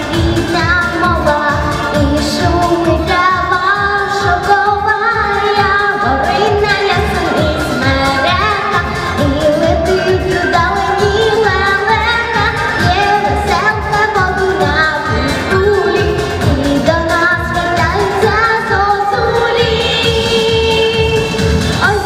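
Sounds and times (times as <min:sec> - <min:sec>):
girl singing into a microphone: 0:00.0 - 0:22.0.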